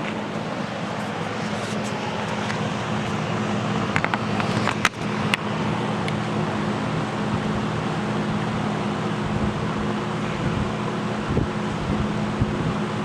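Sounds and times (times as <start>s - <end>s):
box fan running: 0.0s - 13.0s.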